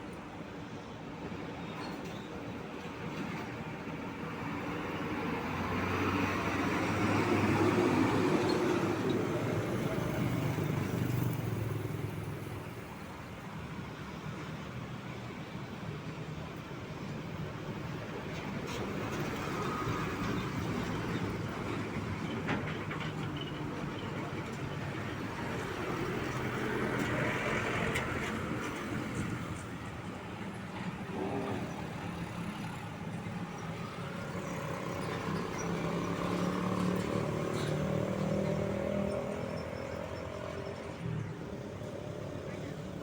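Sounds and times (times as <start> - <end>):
truck engines droning: 0.0 - 43.0
tyre and traffic noise: 0.0 - 43.0.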